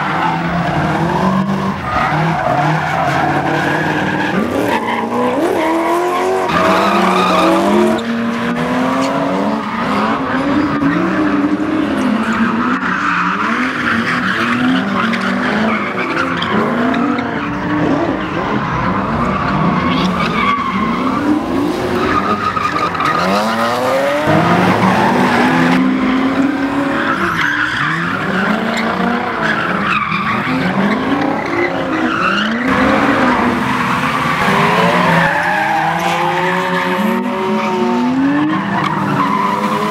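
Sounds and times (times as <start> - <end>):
car engines revving: 0.0 - 39.9
tyres skidding and squealing: 0.0 - 39.9.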